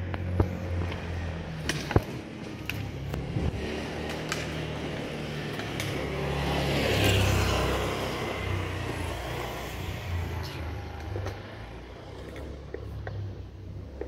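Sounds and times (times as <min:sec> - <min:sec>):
vehicle passing: 0:00.0 - 0:14.0.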